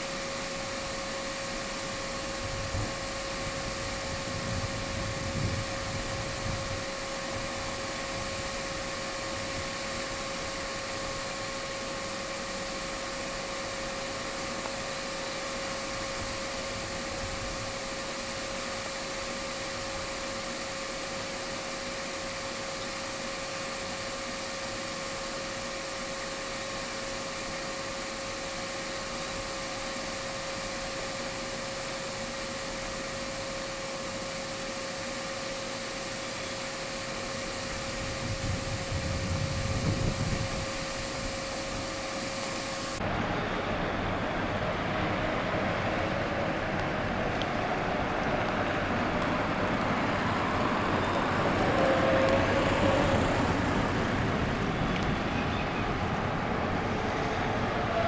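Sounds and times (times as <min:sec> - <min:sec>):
diesel locomotive engine rumbling: 0:00.0 - 0:58.0
rushing outdoor noise by tracks: 0:00.0 - 0:58.0
steady hum: 0:00.0 - 0:58.0
train approaching: 0:00.0 - 0:58.0.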